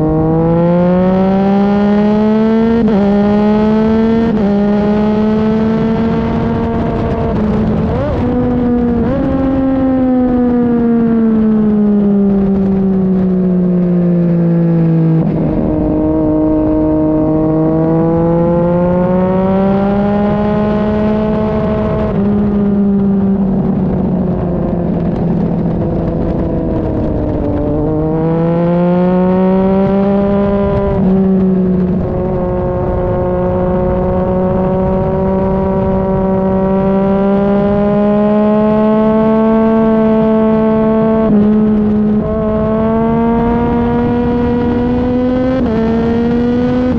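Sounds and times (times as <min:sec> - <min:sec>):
motorcycle engine revving: 0:00.0 - 0:46.9
wind rushing: 0:00.0 - 0:46.9.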